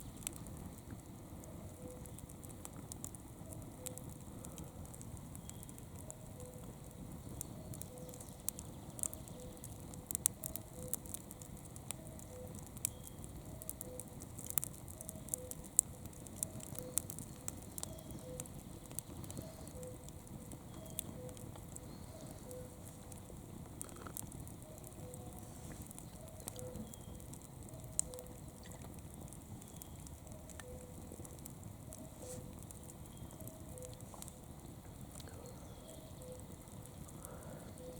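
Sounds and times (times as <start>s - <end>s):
low hiss of flame: 0.0s - 30.1s, 31.3s - 37.9s
wood crackling and popping: 0.0s - 37.9s.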